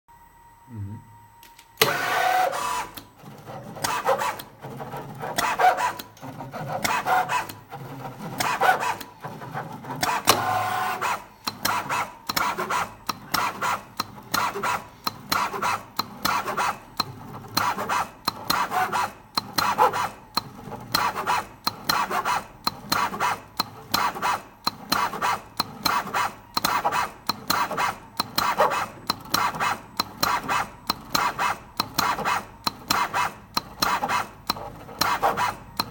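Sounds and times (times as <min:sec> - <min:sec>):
machine motors rasping: 0:01.4 - 0:35.9.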